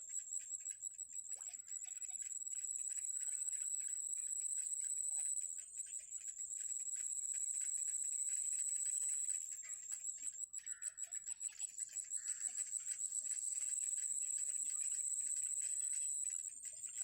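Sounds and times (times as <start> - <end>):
baby birds cheeping: 0.1 - 17.0.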